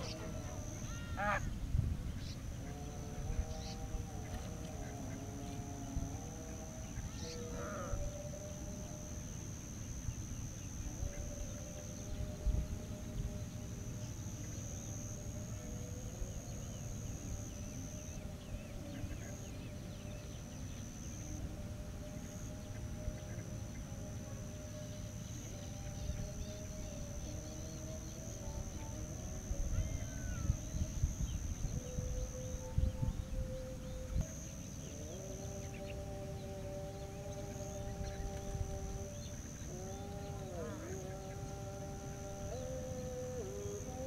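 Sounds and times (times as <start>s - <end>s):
distant wavering calls: 0.0s - 44.0s
steady high-pitched drone: 0.0s - 44.0s.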